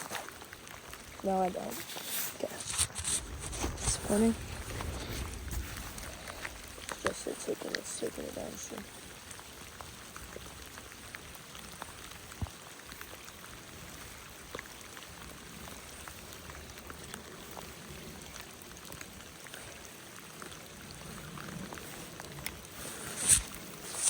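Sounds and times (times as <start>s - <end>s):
creek flowing: 0.0s - 24.0s
rain falling: 0.0s - 24.0s.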